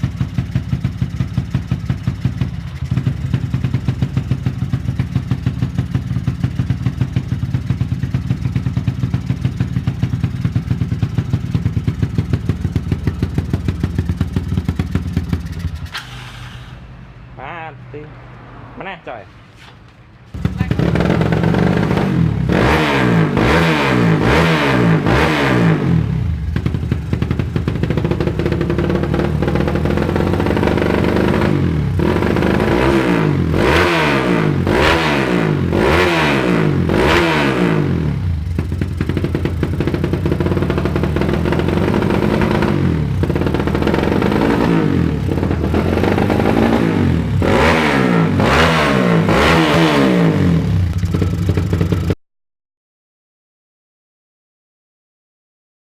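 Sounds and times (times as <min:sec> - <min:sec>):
motorcycle engine revving: 0:00.0 - 0:16.8, 0:17.6 - 0:52.2.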